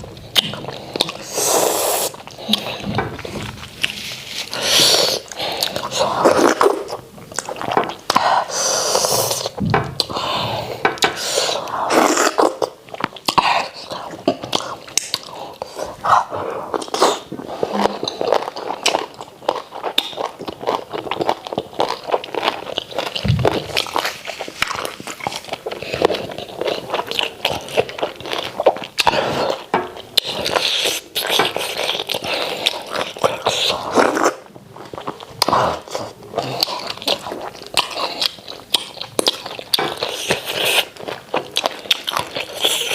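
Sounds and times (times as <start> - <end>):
wet chewing and lip smacking: 0.0 - 42.9.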